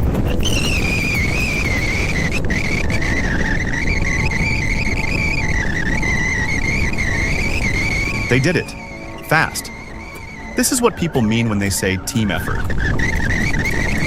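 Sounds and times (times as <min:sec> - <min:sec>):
heavy machinery rumbling: 0:00.0 - 0:14.0
high wavering metal squeal: 0:00.1 - 0:14.0.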